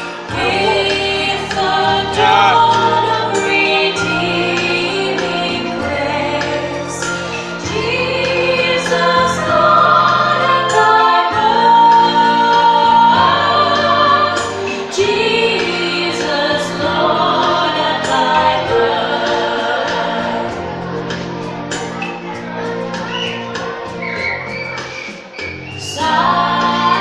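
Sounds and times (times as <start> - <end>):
group singing a carol: 0.0 - 24.8, 25.8 - 27.0.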